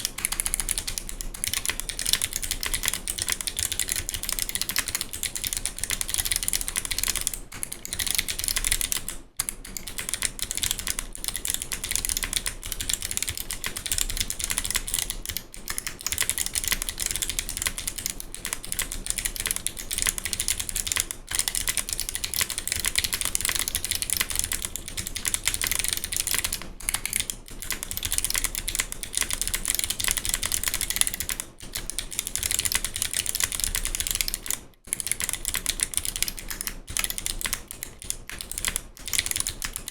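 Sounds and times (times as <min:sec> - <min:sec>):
mechanical keyboard clicky typing: 0:00.0 - 0:39.9.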